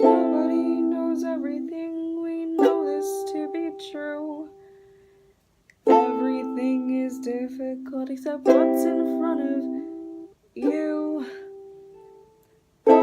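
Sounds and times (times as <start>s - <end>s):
ukulele chords strummed: 0.0s - 4.6s, 5.7s - 13.0s.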